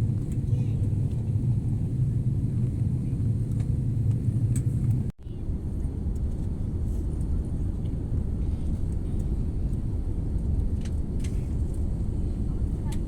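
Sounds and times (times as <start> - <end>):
vehicle rumble from inside: 0.0 - 13.0.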